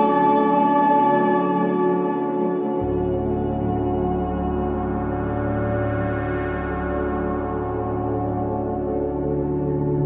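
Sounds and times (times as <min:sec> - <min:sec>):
ambient drone music: 0:00.0 - 0:10.0.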